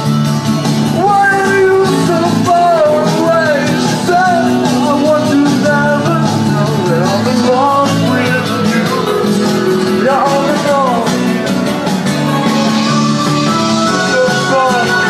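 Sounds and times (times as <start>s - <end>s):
bass notes: 0.0s - 15.0s
live rock band playing: 0.0s - 15.0s
sliding melody line: 0.8s - 15.0s.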